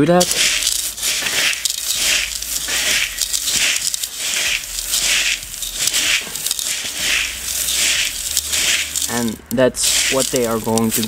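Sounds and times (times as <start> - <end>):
grains rustling in plastic bucket: 0.0 - 11.0.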